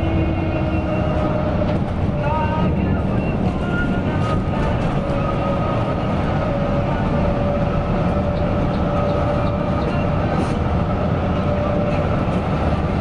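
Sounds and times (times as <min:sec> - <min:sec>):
coach engine and road rumble: 0:00.0 - 0:13.0.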